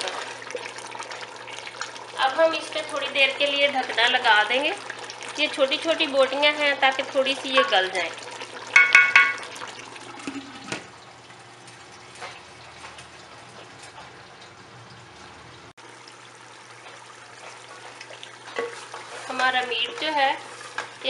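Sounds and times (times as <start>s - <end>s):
curry simmering in a pot: 0.0s - 21.0s.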